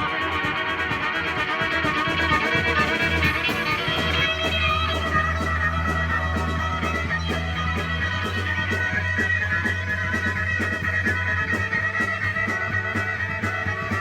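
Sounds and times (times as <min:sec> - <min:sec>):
drums with cymbal strokes: 0:00.0 - 0:14.0
electric guitar: 0:00.0 - 0:14.0.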